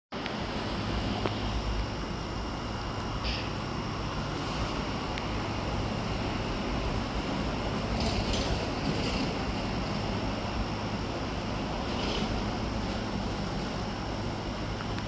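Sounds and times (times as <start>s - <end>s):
background rumble and hiss: 0.2s - 15.0s.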